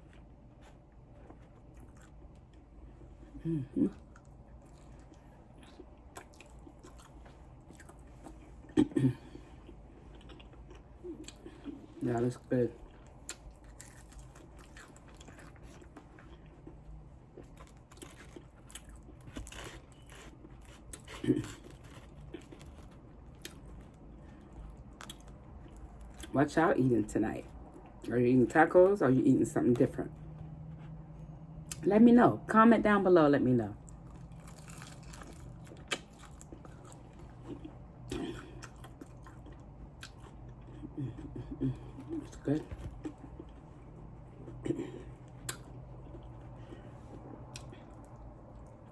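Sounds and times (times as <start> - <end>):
chewing crunchy food: 0.0 - 8.9, 9.5 - 26.4, 33.8 - 48.9
steady low hum: 0.0 - 48.9.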